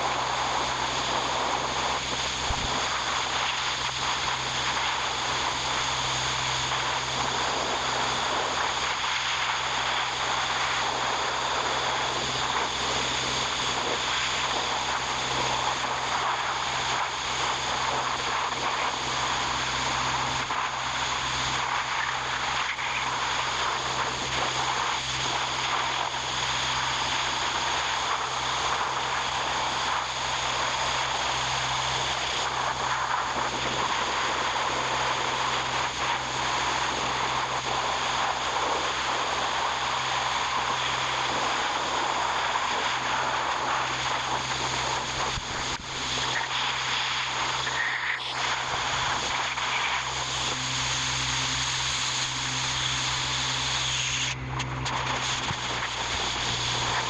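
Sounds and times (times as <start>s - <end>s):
machine drone with hum and hiss: 0.0s - 57.0s.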